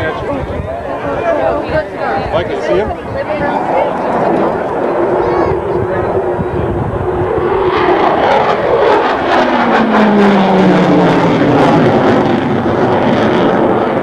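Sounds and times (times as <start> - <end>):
military jet flying past: 0.0 - 14.0.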